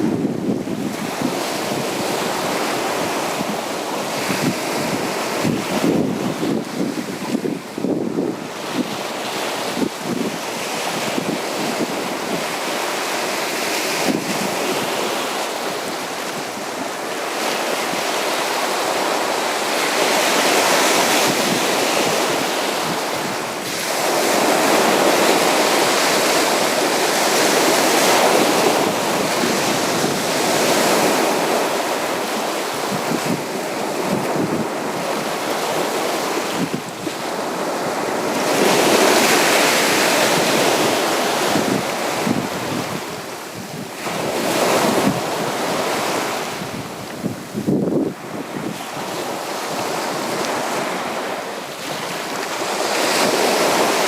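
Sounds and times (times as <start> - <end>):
sea waves washing onto beach: 0.0 - 54.0
wind gusts on microphone: 0.0 - 54.0.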